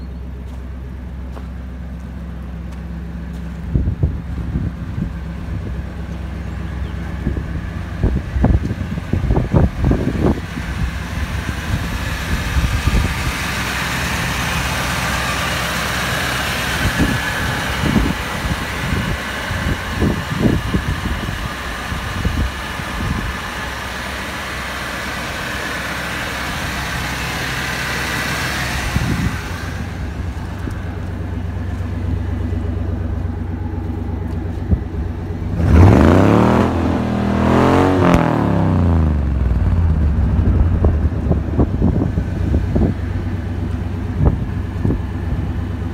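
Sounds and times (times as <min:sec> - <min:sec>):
pickup engine idling: 0:00.0 - 0:45.9.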